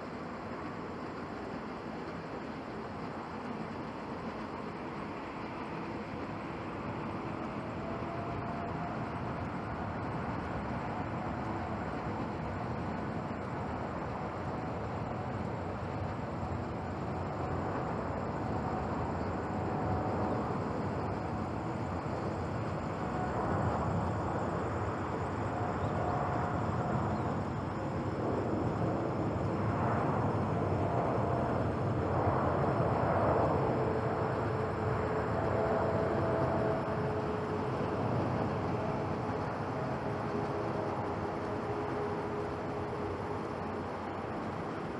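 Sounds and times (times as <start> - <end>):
jet engines roaring with whine: 0.0 - 44.9.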